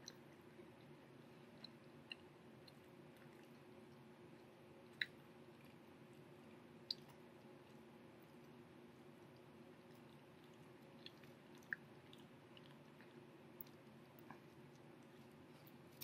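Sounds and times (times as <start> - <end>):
close-mouthed chewing: 0.0 - 16.0
faint room hum: 0.0 - 16.0.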